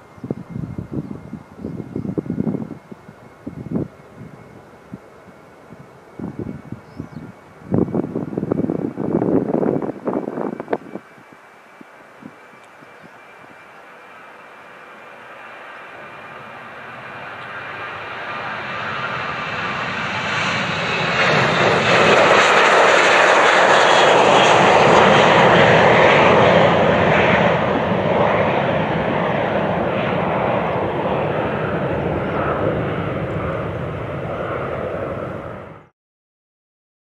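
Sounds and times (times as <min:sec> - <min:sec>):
jet engines at takeoff: 0:00.0 - 0:35.9.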